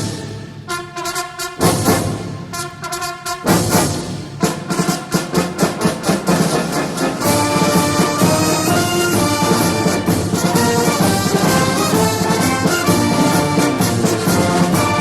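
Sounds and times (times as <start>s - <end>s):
orchestral brass chords: 0.0s - 15.0s.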